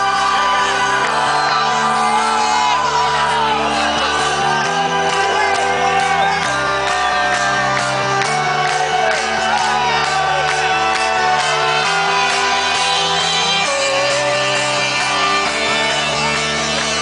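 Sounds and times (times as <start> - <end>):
crowd shouting and whooping: 0.0 - 17.0
loud trance music: 0.0 - 17.0.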